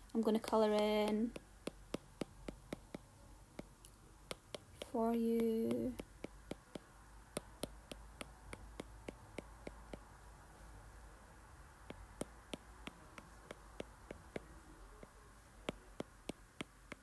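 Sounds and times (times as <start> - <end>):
taps on touchscreen: 0.4 - 10.2, 11.8 - 17.0.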